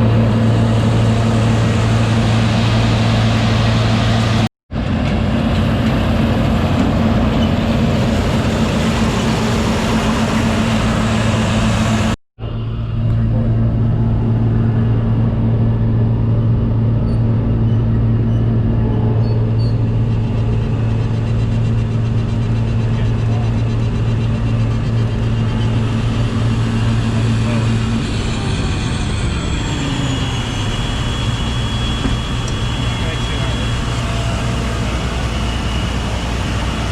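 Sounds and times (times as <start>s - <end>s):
heavy farm machinery engine: 0.0s - 36.9s
high steady whine: 0.0s - 36.9s.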